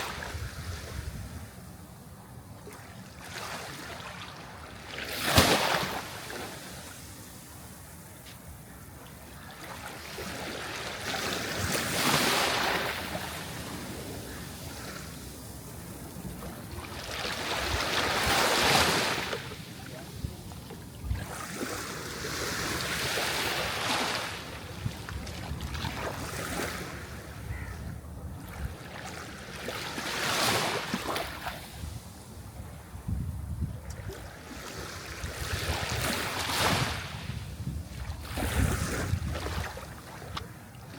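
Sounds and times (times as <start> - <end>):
sea waves breaking: 2.7 - 7.8, 9.1 - 27.4, 28.4 - 32.2, 34.0 - 40.9.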